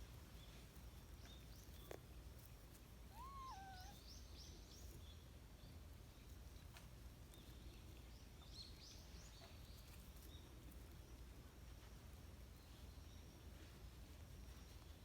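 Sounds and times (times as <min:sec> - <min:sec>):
faint bird chirping: 0:00.0 - 0:15.0
low background hum: 0:00.0 - 0:15.0.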